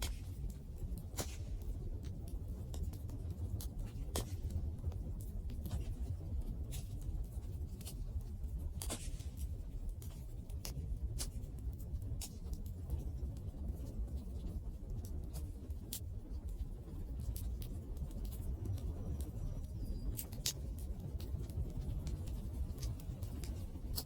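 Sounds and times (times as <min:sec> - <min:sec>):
low rumble of flames: 0:00.0 - 0:24.0
wood crackling and popping: 0:00.0 - 0:24.0.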